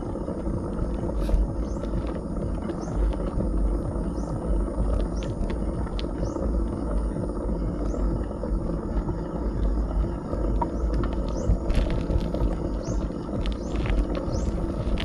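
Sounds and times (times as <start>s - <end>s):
tyre noise on road: 0.0s - 15.0s
wind buffeting microphone: 0.0s - 15.0s.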